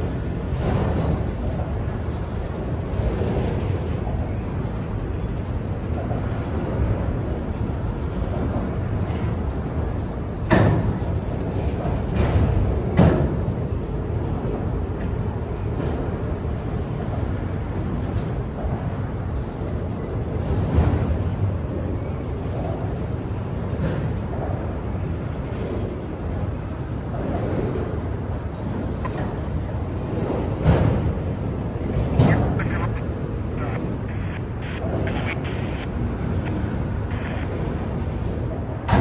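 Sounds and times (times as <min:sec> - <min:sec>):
freight train wheels rolling on rails: 0:00.0 - 0:39.0.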